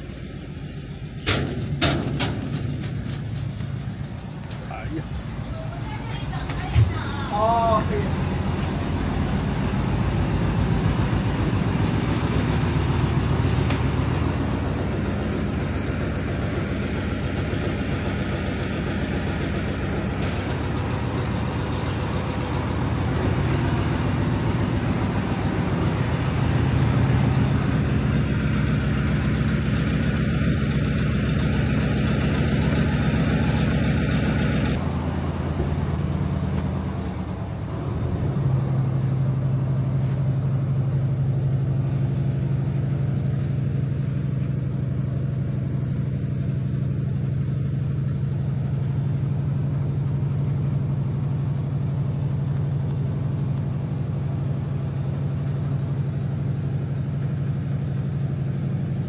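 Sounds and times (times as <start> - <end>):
ferry engine low hum: 0.0 - 59.0.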